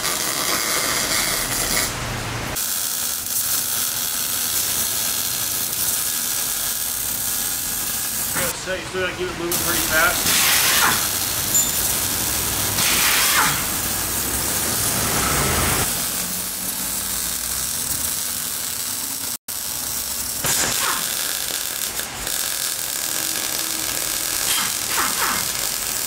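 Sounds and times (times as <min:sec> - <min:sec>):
welding arc crackling and hissing: 0:00.0 - 0:26.0.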